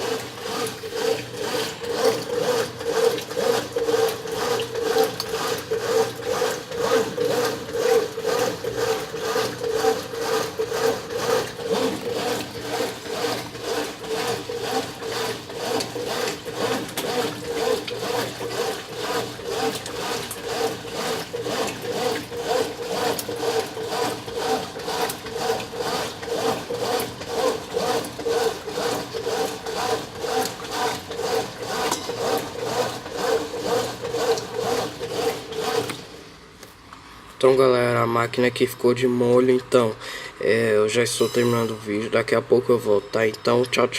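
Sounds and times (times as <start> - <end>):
washing machine agitating: 0.0 - 43.9.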